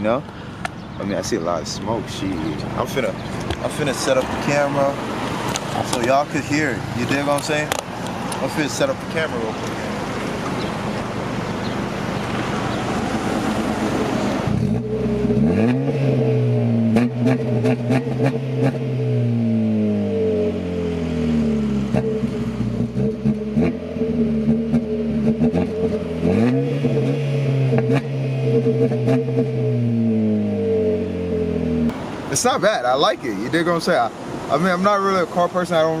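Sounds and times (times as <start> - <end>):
exhaust crackles: 0.2 - 32.0
car engine revving: 1.8 - 32.1.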